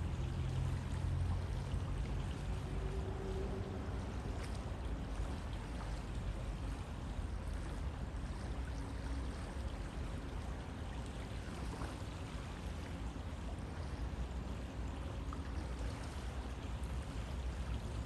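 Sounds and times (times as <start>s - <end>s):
low water rumble: 0.0s - 18.0s
river flowing: 0.0s - 18.0s.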